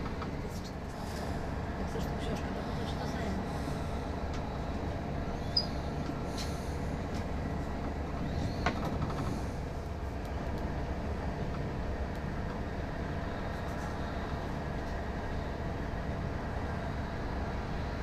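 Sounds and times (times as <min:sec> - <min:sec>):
low rumble of vehicles: 0:00.0 - 0:18.0.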